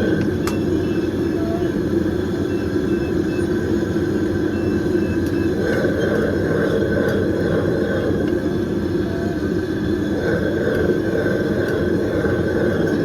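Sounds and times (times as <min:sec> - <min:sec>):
busy street market ambience: 0:00.0 - 0:13.0.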